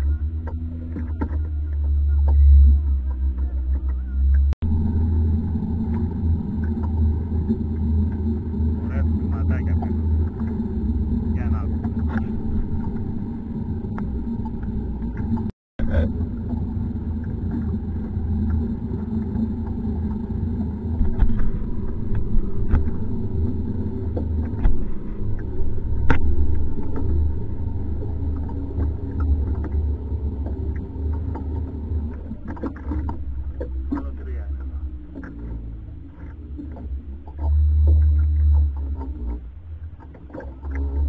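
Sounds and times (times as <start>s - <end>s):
motor rumbling: 0.0s - 41.0s.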